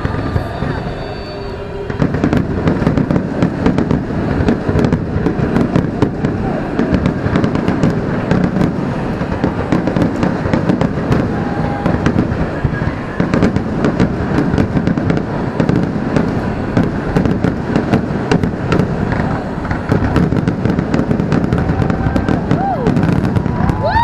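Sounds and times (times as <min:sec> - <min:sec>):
firework crackling bangs: 0:00.0 - 0:24.0
firework shells booming: 0:00.0 - 0:24.0.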